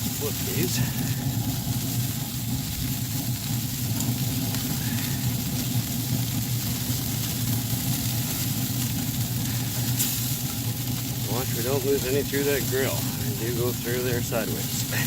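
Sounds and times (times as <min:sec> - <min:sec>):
chicken wings sizzling on grill: 0:00.0 - 0:15.0
smoker fan humming: 0:00.0 - 0:15.0.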